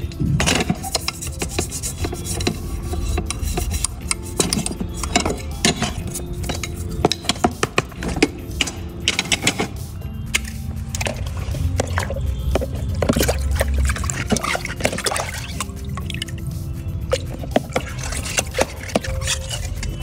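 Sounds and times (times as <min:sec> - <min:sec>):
brush scrubbing metal grate: 0:00.0 - 0:16.3, 0:17.1 - 0:20.0.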